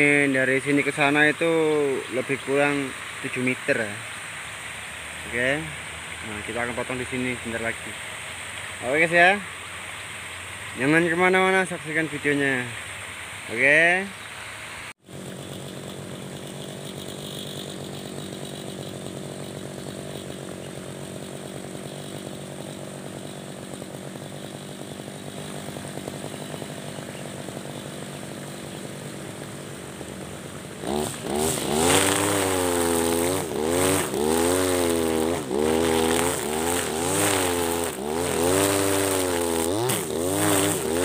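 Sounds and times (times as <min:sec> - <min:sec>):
trimmer line cutting grass: 0:00.0 - 0:09.9, 0:15.0 - 0:41.0
brush cutter engine revving: 0:00.0 - 0:12.7, 0:15.1 - 0:41.0.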